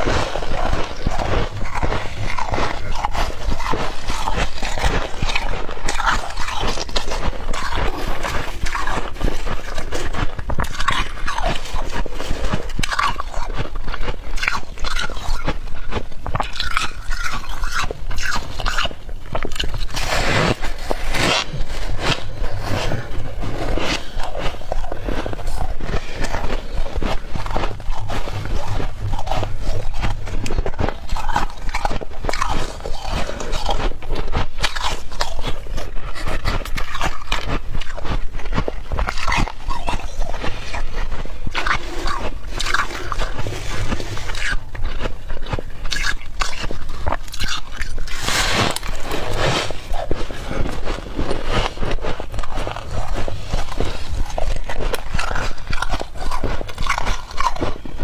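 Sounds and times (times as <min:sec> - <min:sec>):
squeaky crunching of chewed frost: 0:00.0 - 0:58.0.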